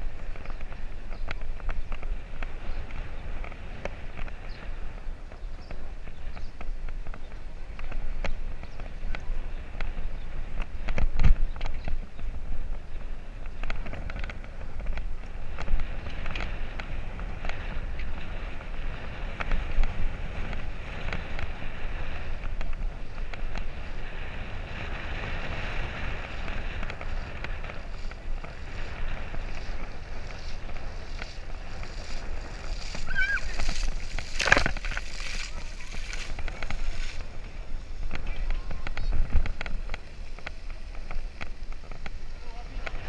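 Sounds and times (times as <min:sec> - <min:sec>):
bike clicks and rattles: 0:00.0 - 0:43.0
wind buffeting microphone: 0:00.0 - 0:43.0.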